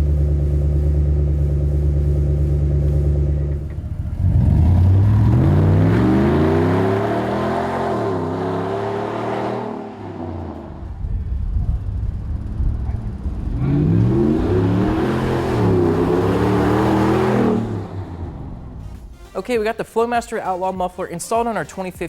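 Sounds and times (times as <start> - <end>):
truck engine revving: 0.0 - 19.2.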